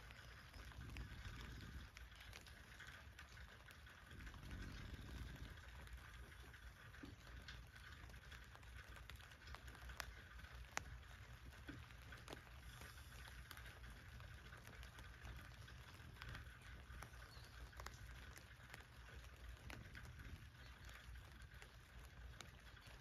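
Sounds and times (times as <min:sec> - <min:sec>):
faint rain on a tent: 0:00.0 - 0:23.0.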